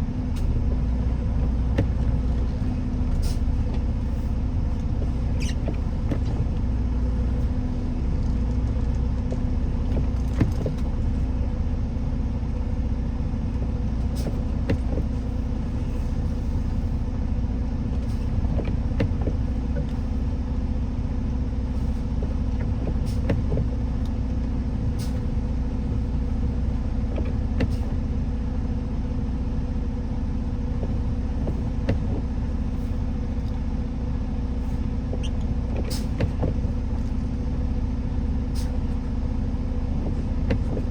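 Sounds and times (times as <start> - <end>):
engine and tyres rumbling: 0.0 - 40.9.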